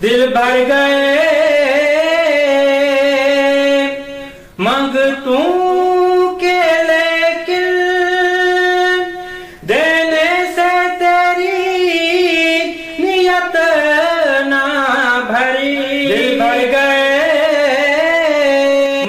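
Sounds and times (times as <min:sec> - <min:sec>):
man reciting with long held notes: 0:00.0 - 0:19.0.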